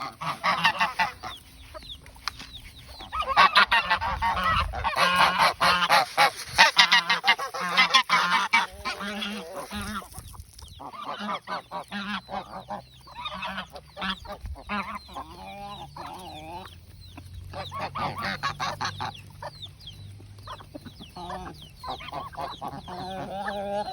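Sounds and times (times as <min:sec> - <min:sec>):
geese honking: 0:00.0 - 0:10.2, 0:10.8 - 0:19.7, 0:20.4 - 0:23.9
chickens calling: 0:00.0 - 0:23.9.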